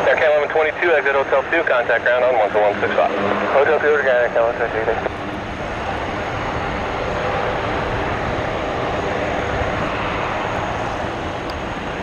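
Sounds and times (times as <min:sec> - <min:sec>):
aircraft engines rushing: 0:00.0 - 0:12.0
faint high whine: 0:00.0 - 0:12.0.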